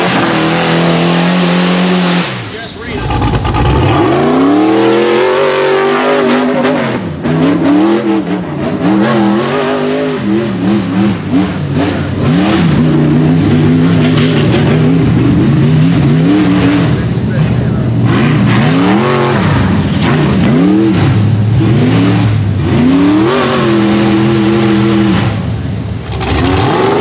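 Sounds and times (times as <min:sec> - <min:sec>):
buggy engine revving hard: 0:00.0 - 0:27.0.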